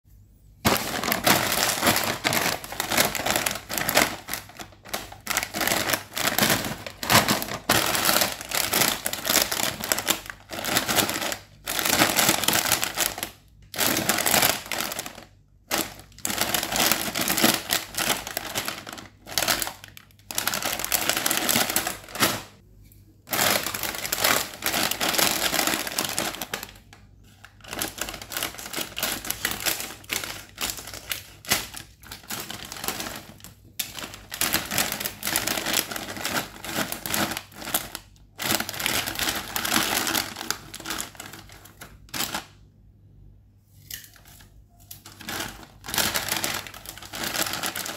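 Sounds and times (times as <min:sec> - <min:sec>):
plastic snack packets crackling: 0:00.7 - 0:22.6, 0:23.3 - 0:42.7, 0:44.2 - 0:47.9.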